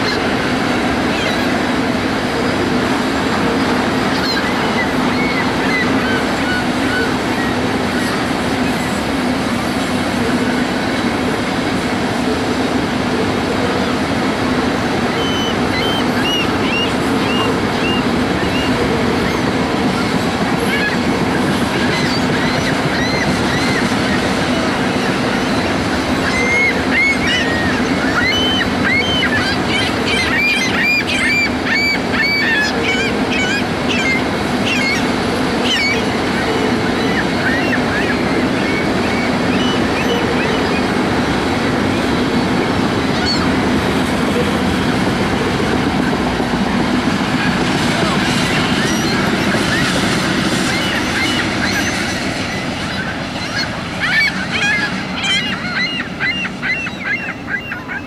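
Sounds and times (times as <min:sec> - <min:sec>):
birds calling: 0:00.0 - 0:58.0
freight train rumble: 0:00.0 - 0:58.0
wheels squealing on rails: 0:00.0 - 0:58.0.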